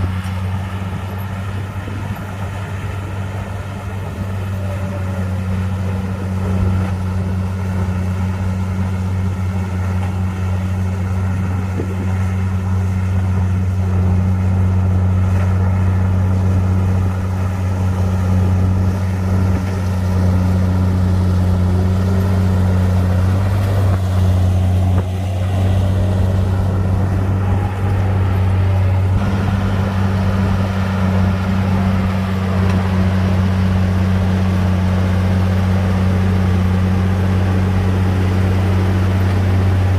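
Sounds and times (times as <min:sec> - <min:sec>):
bulldozer diesel engine: 0:00.0 - 0:39.9
faint whine: 0:00.0 - 0:39.9.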